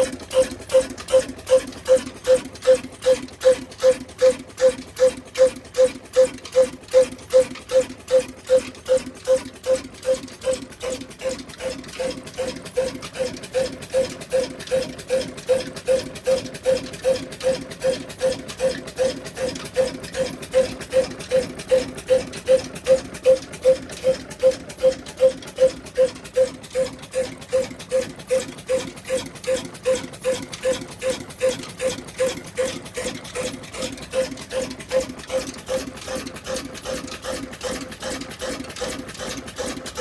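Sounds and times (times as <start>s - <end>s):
diesel engine running slowly: 0.0s - 40.0s.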